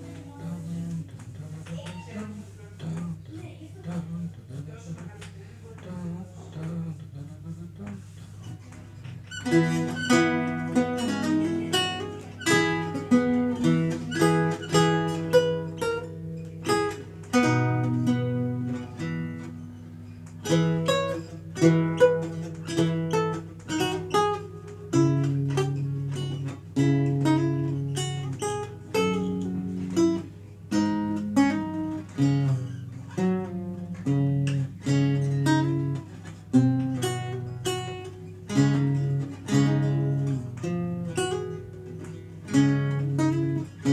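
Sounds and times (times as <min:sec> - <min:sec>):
solo lute playing: 0:00.0 - 0:01.1, 0:09.3 - 0:43.9.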